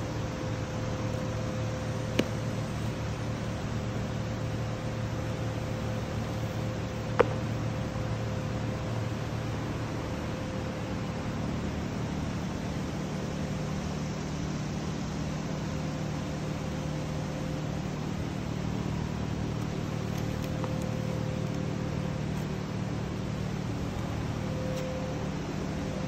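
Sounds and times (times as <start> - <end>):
air handling system hum: 0.0 - 26.0.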